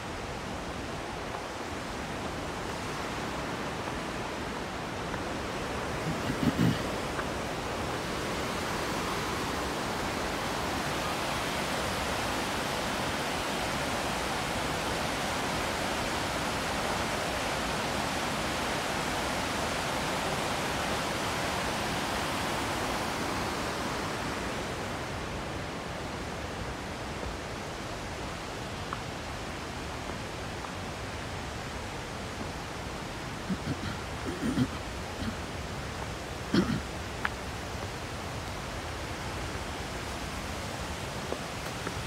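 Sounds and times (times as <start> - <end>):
water rushing over rocks: 0.0 - 42.0.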